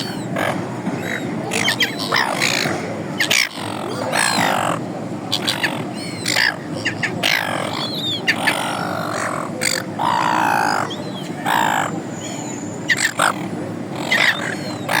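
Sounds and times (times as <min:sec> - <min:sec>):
gulls squawking: 0:00.0 - 0:15.0
low background noise: 0:00.0 - 0:15.0.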